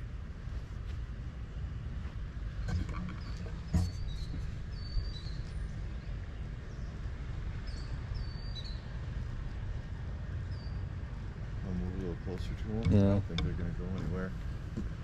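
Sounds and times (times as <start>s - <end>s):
songbirds chirping: 0.0s - 15.0s
steady low rumble: 0.0s - 15.0s.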